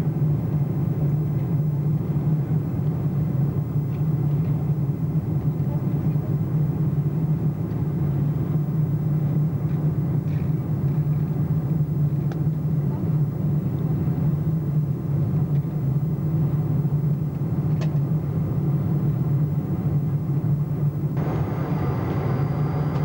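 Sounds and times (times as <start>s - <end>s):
airplane cabin drone: 0.1s - 23.0s.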